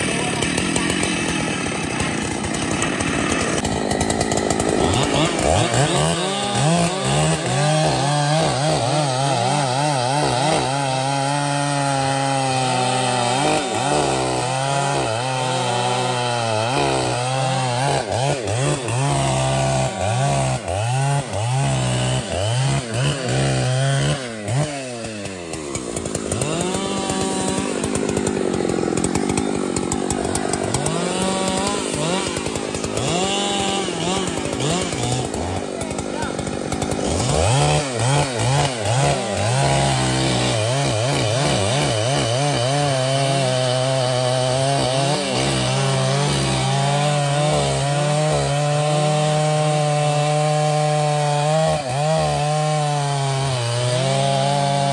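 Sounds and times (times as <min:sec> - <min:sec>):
chainsaw cutting tree: 0:00.0 - 0:54.9.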